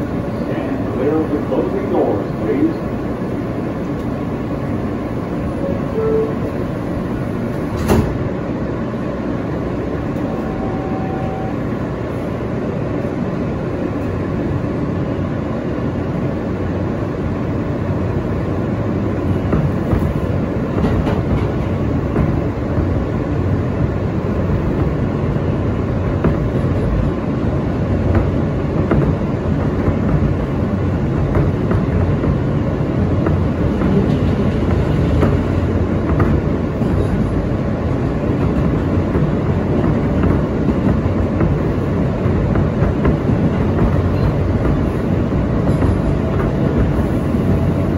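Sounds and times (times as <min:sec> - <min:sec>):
subway train rumble: 0:00.0 - 0:47.9.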